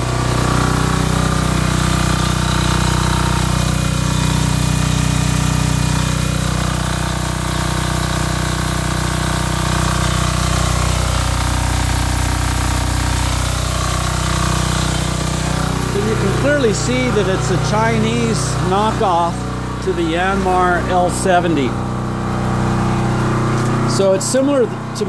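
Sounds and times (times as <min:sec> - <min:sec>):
diesel generator running: 0:00.0 - 0:25.0.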